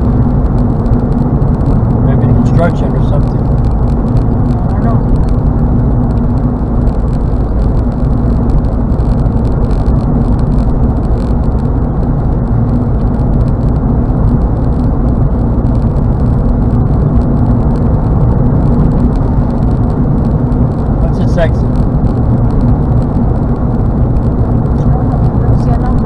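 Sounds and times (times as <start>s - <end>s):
low engine hum: 0.0s - 26.0s
road and tyre noise: 0.0s - 26.0s.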